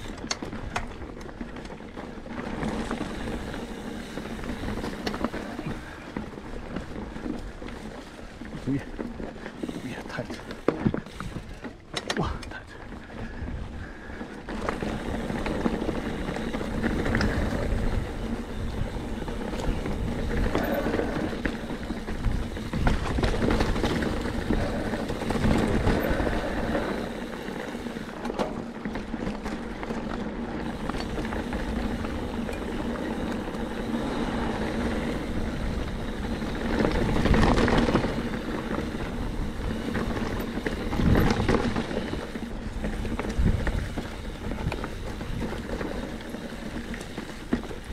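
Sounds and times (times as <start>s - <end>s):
bike rattling: 0.0s - 47.9s
bike tyres rolling over rocks: 0.0s - 47.9s.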